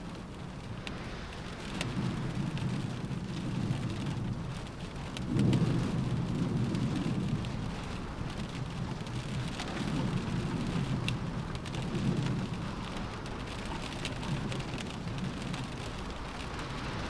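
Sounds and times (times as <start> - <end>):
low wind rumble: 0.0 - 17.0
rain pattering on a window: 0.0 - 17.0.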